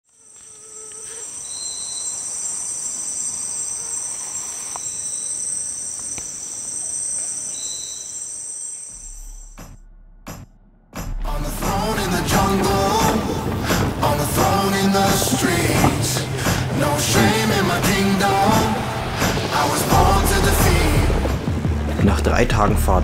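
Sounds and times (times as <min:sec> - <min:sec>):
rainforest insects droning: 0:00.1 - 0:09.4, 0:11.8 - 0:21.5.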